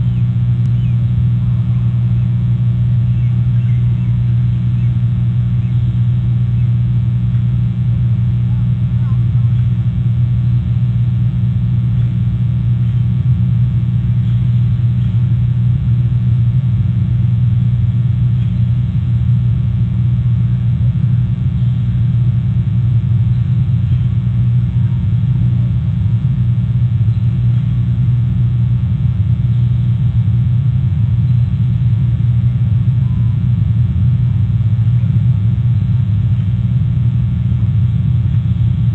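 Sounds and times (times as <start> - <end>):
steady low rumble: 0.0 - 38.9.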